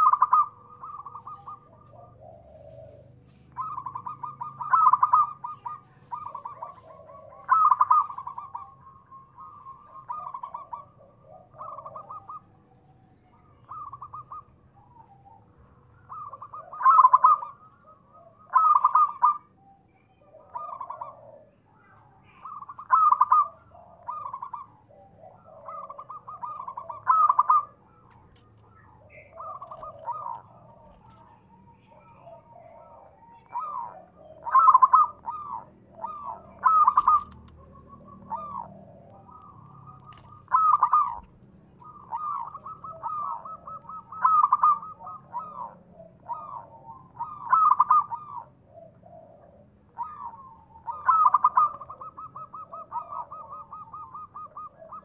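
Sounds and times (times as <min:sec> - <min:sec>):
dove cooing: 0:00.0 - 0:55.0
faint steady hum: 0:00.0 - 0:55.0.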